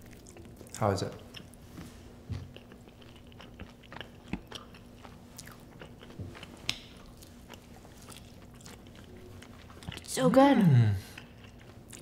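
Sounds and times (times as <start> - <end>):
chewing crispy chicken: 0.0 - 1.6, 2.5 - 12.0.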